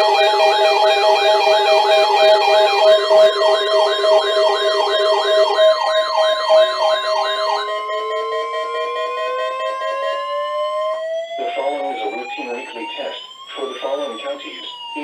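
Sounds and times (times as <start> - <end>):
high electronic warble: 0.0 - 15.0
siren-like electronic wail: 0.0 - 15.0
steady beeping tones: 0.0 - 15.0.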